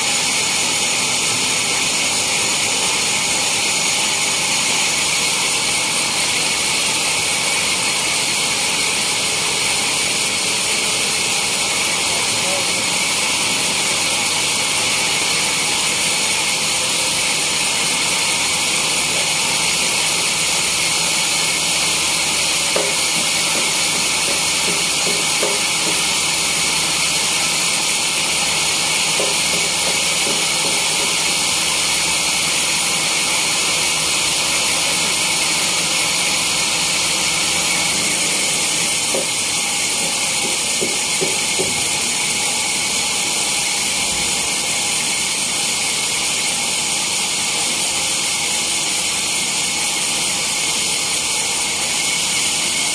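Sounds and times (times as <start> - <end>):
sawmill saw hissing: 0.0 - 52.9.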